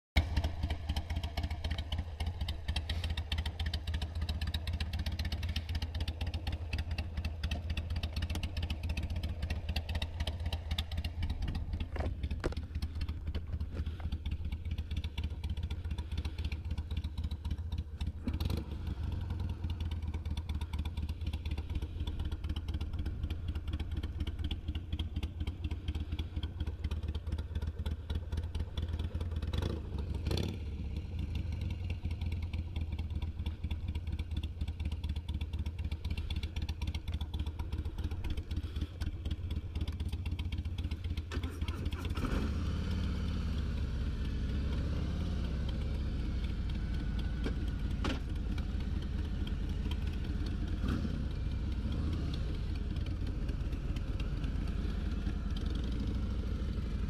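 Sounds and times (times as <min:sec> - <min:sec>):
motorcycle engine running: 0:00.2 - 0:57.0.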